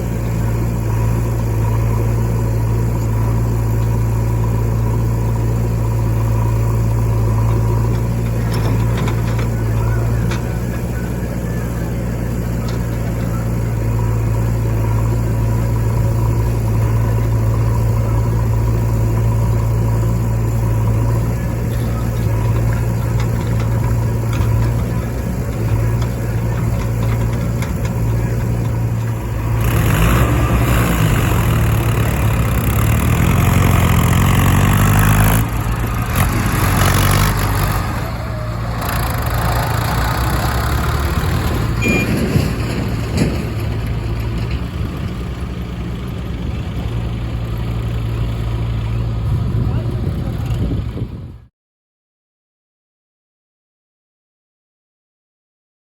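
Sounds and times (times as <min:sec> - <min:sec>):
diesel engine droning and revving: 0:00.0 - 0:51.5.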